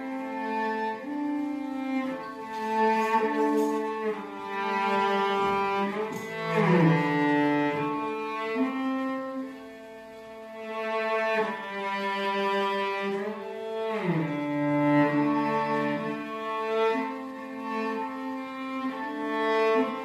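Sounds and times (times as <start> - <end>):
slow bowed string music: 0.0 - 20.0.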